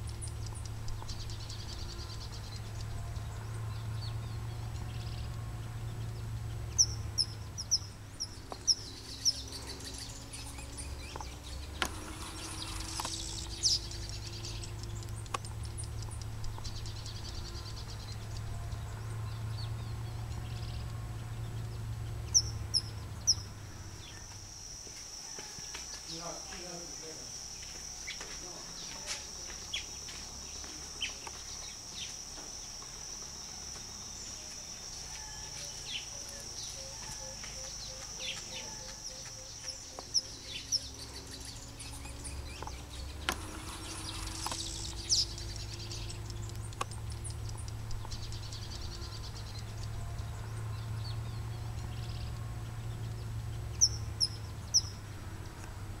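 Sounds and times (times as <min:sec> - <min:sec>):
high insect buzz: 0:00.0 - 0:56.0.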